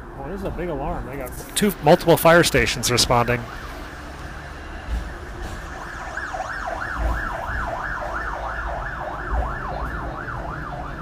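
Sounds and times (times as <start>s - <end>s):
street traffic hum: 0.0s - 11.0s
fire engine siren yelping: 1.9s - 11.0s.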